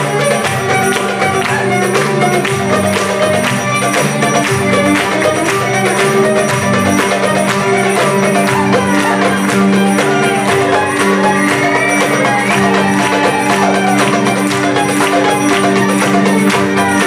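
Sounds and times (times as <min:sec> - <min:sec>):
hand percussion: 0:00.0 - 0:17.0
jingling tambourine: 0:00.0 - 0:17.0
violin melody: 0:00.0 - 0:17.0.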